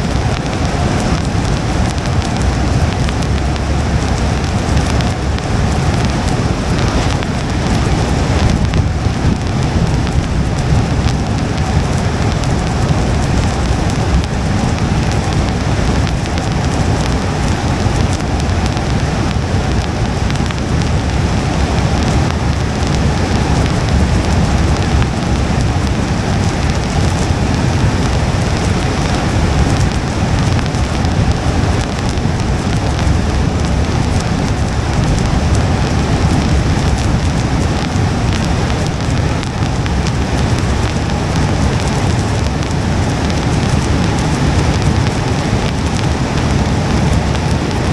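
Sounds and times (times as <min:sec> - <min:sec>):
low road rumble: 0:00.0 - 0:47.9
rain pattering on car windshield: 0:00.0 - 0:47.9.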